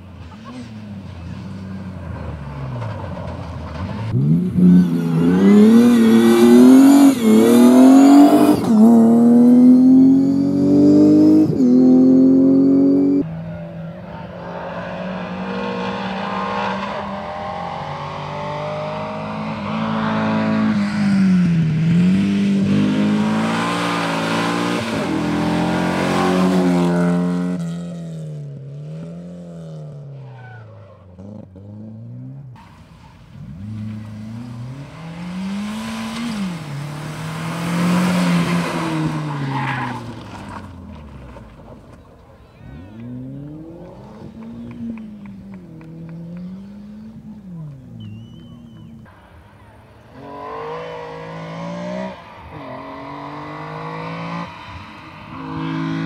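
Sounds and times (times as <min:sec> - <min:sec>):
rally car engines accelerating: 0:00.0 - 0:56.0
distant engine revving: 0:03.7 - 0:32.7, 0:33.3 - 0:41.1, 0:42.8 - 0:56.0.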